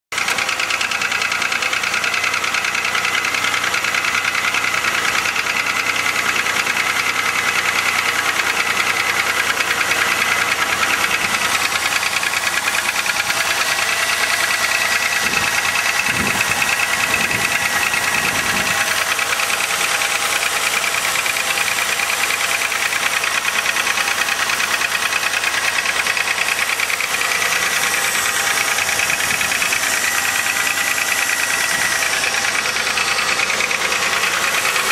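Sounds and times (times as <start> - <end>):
engine knocking clatter: 0.1 - 34.9.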